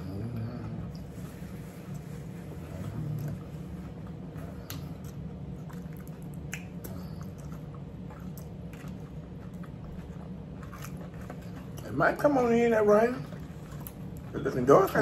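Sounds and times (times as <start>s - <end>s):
chewing: 0.0s - 15.0s
steady low hum: 0.0s - 15.0s.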